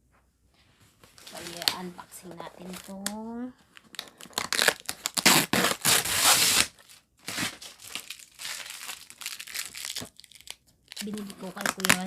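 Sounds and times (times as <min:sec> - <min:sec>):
packaging tearing and rustling: 0:01.2 - 0:03.1, 0:03.7 - 0:12.0.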